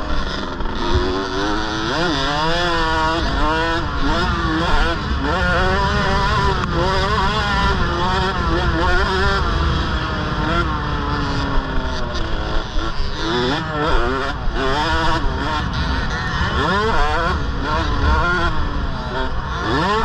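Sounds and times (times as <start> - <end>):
motorbike engine revving: 0.0 - 20.0.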